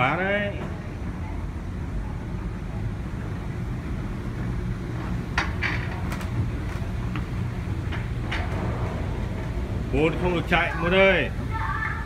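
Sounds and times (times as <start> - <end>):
moving walkway humming: 0.0 - 12.0.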